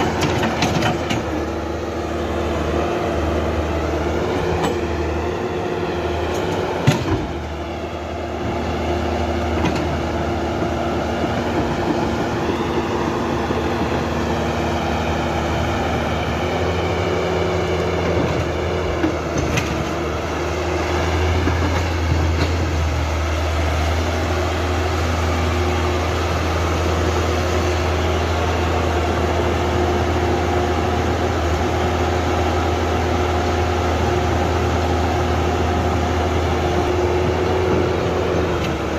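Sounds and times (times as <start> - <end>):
hydraulic pump whine: 0.0 - 38.9.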